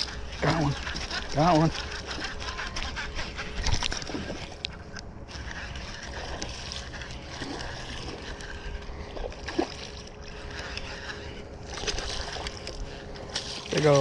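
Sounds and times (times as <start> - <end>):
water noise: 0.0 - 14.0.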